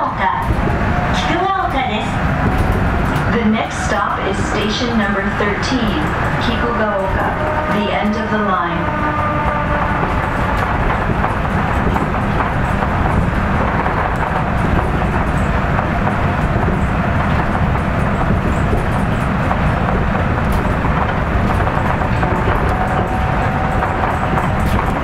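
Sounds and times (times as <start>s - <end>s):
monorail car running: 0.0s - 25.0s.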